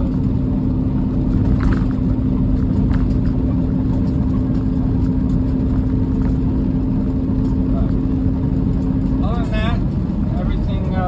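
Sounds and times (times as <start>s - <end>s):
truck engine drone inside cab: 0.0s - 11.0s.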